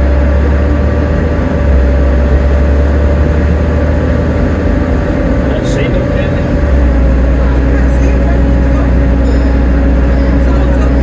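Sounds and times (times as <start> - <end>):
bus engine rumbling with whine: 0.0 - 11.0.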